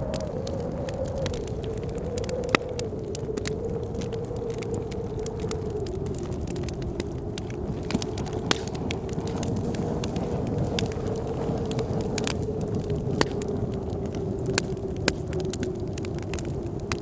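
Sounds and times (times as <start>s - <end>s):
blizzard wind howling: 0.0s - 17.0s
wood fire crackling and popping: 0.0s - 17.0s.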